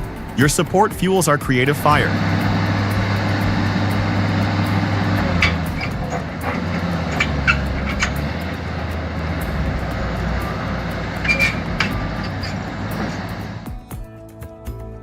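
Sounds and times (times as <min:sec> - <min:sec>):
large engine running: 0:00.0 - 0:13.8
sharp metal clanks and knocks: 0:01.6 - 0:13.7.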